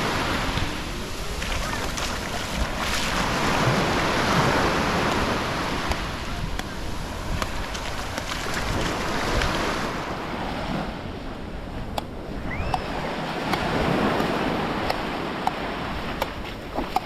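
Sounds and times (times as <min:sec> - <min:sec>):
waves washing onto beach: 0:00.0 - 0:17.0
wind on microphone: 0:00.0 - 0:17.0.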